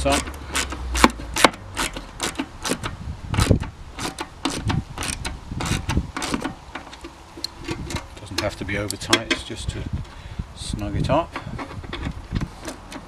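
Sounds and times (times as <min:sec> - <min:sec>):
wrench clicking and scraping on bolt: 0:00.0 - 0:09.6, 0:11.3 - 0:13.0.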